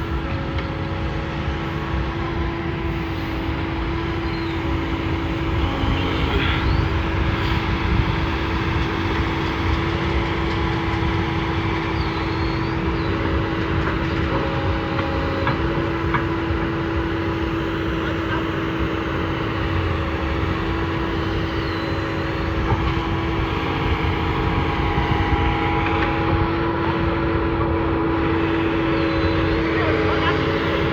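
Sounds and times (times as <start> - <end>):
diesel engine running steadily: 0.0 - 30.9.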